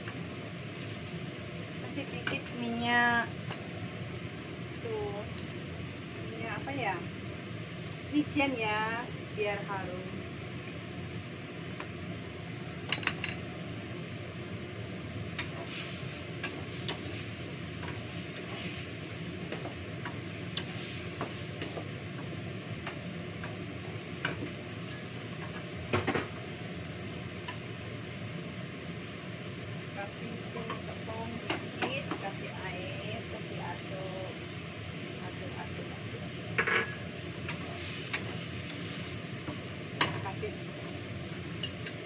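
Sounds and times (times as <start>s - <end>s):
steady frying hiss: 0.0s - 42.0s.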